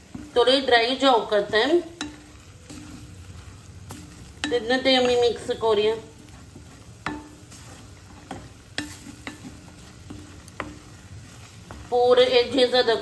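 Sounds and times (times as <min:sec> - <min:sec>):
eggs sizzling: 0:00.0 - 0:13.0
spatula scraping steel pan: 0:01.4 - 0:13.0.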